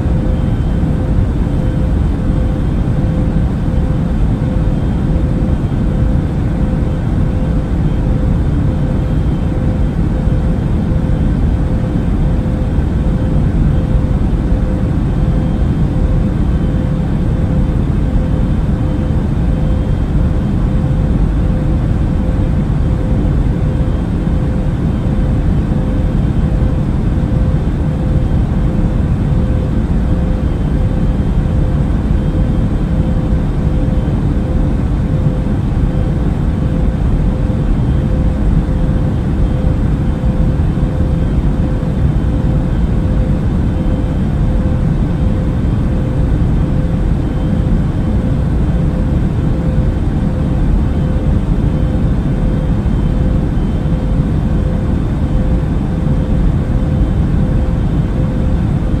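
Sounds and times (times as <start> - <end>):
airliner cabin engine rumble: 0.0 - 59.0
constant hum: 0.0 - 59.0.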